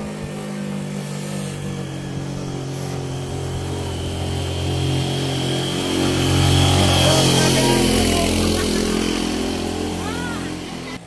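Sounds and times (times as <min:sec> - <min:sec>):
motorcycle engine passing by: 0:00.0 - 0:11.0.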